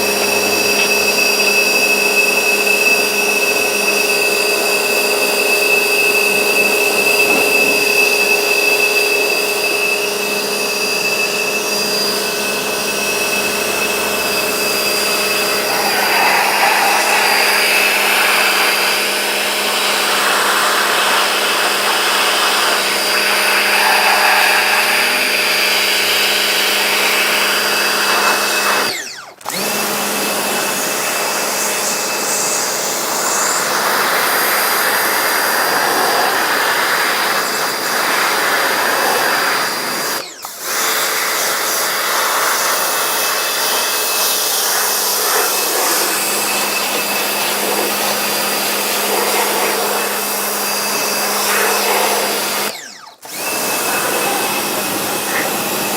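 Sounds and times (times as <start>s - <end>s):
electric motor humming: 0.0s - 40.7s, 42.5s - 55.9s.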